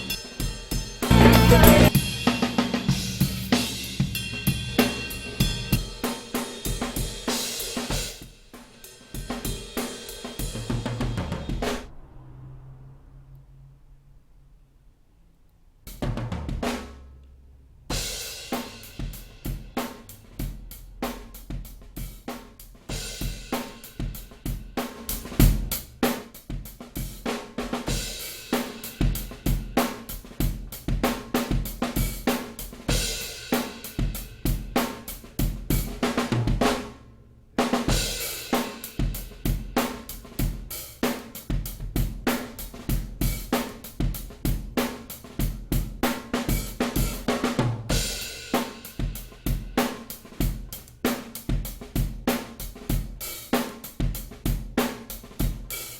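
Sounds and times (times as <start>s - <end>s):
song with full drum kit: 0.0s - 11.9s, 15.9s - 17.1s, 17.9s - 55.9s.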